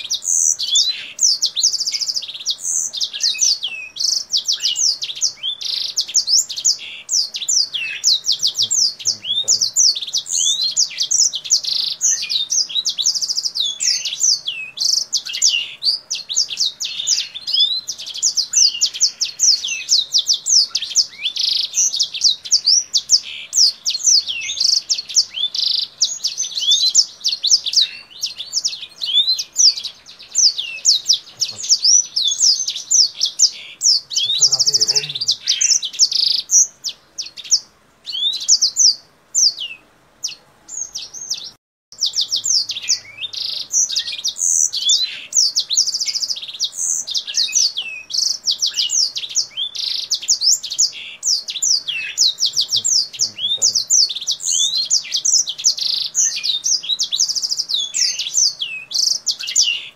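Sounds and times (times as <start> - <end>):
songbird warbling and trilling: 0.0 - 59.9.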